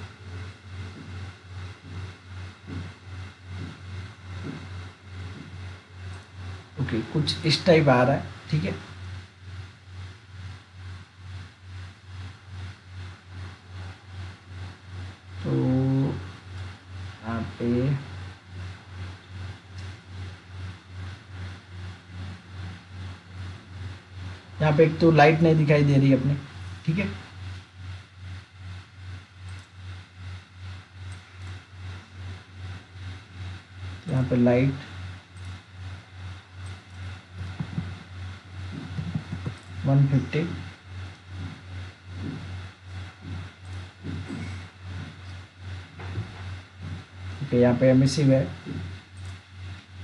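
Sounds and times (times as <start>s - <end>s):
faint steady hiss: 0.0s - 50.0s
low background hum: 0.0s - 50.0s.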